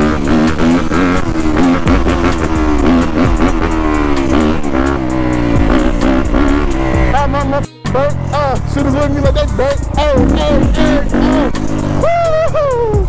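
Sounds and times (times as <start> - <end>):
dirt bike engine revving: 0.0 - 13.0
music with steady beat: 0.0 - 13.0.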